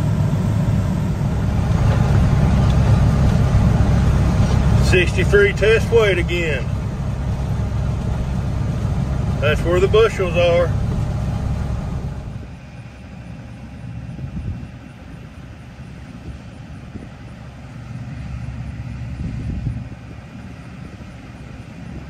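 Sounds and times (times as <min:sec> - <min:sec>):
truck diesel engine rumble: 0:00.0 - 0:22.0.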